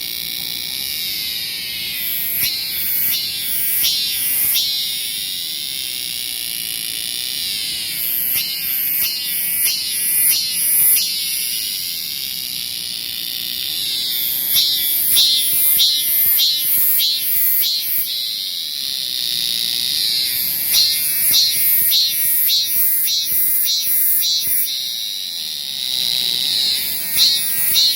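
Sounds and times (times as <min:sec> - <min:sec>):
cicada buzzing: 0:00.0 - 0:27.9.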